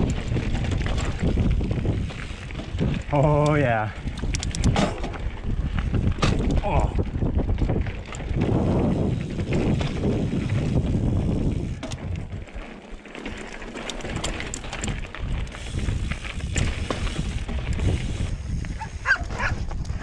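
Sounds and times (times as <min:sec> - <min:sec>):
bike frame rattling and clicking: 0:00.0 - 0:20.0
bike tyre noise on rock: 0:00.0 - 0:20.0
low wind rumble: 0:00.0 - 0:20.0.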